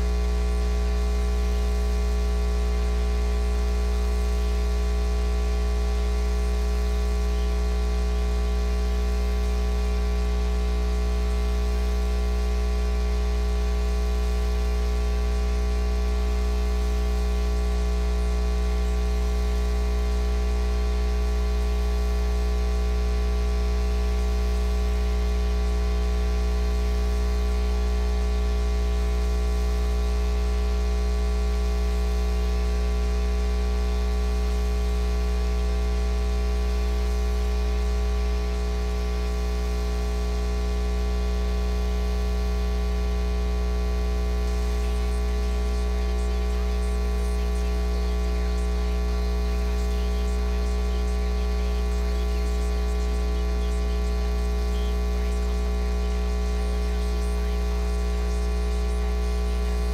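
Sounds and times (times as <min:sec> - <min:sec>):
electrical mains hum: 0:00.0 - 0:59.9
faint static crackle: 0:00.0 - 0:59.9.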